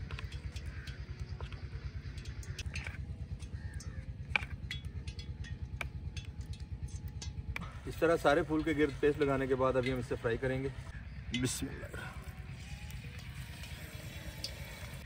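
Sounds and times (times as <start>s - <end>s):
engine chugging: 0.0s - 15.0s.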